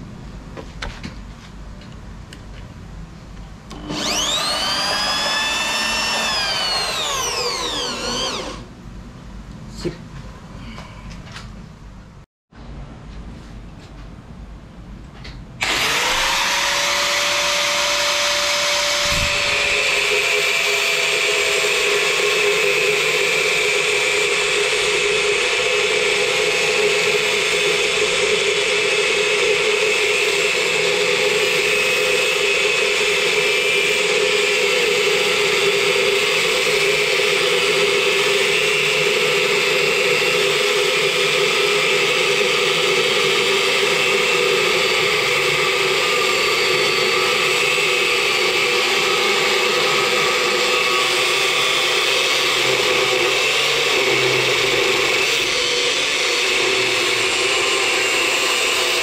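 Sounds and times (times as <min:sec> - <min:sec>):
angle grinder motor whine: 0:03.7 - 0:08.7, 0:15.6 - 0:59.0
grinder disc cutting metal: 0:03.7 - 0:08.7, 0:15.6 - 0:59.0.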